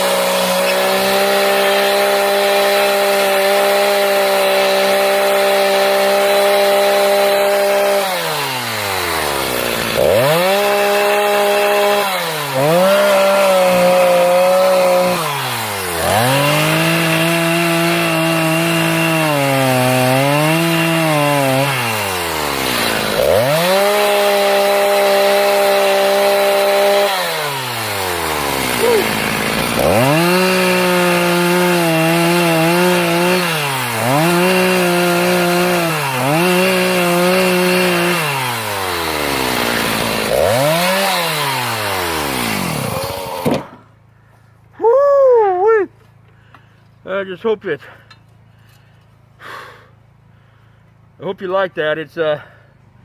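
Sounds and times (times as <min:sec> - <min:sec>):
chainsaw cutting wood: 0:00.0 - 0:44.1.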